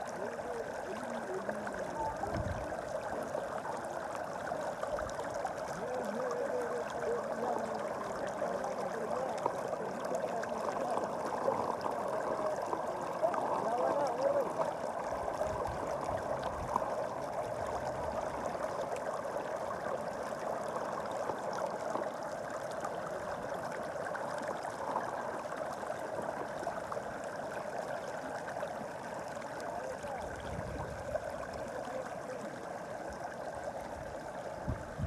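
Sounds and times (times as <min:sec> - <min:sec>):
stream water flowing: 0:00.0 - 0:35.0.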